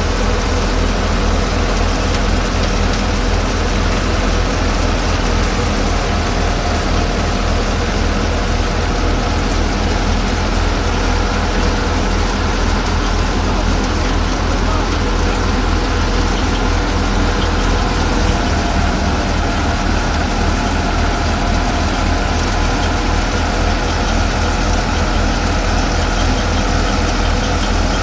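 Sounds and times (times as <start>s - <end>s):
threshing machine mechanical din: 0.0s - 28.0s
tractor diesel engine running: 0.0s - 28.0s.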